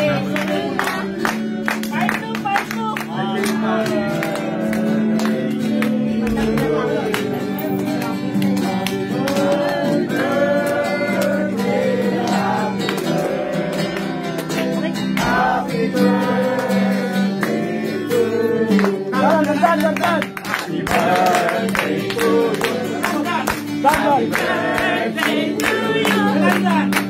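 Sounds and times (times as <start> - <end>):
group singing: 0.0 - 1.8, 3.1 - 27.0
guitar: 0.0 - 27.0.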